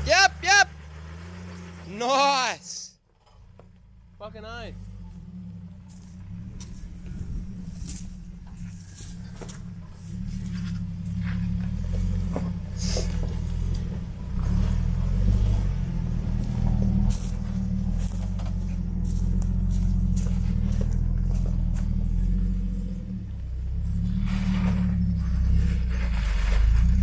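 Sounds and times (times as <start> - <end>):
off-road vehicle engine under load: 0.0 - 27.0.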